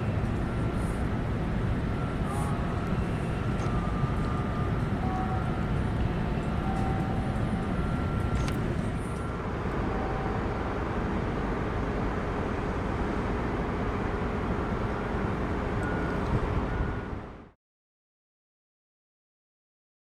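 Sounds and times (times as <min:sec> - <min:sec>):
low outdoor background rumble: 0:00.0 - 0:17.5.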